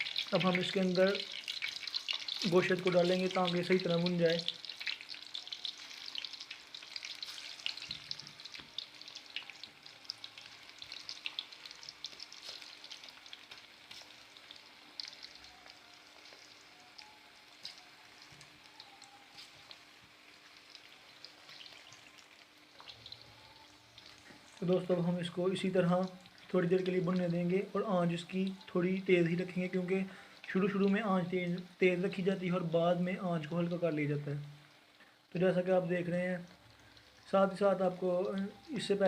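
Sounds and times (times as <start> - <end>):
chicken frying in hot oil: 0.0 - 39.0.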